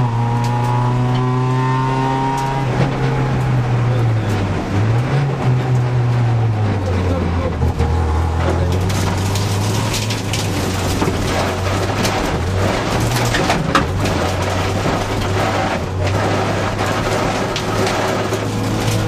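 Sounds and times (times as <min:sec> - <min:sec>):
rally car engine running hard: 0:00.0 - 0:19.0
tyre and road noise: 0:00.0 - 0:19.0.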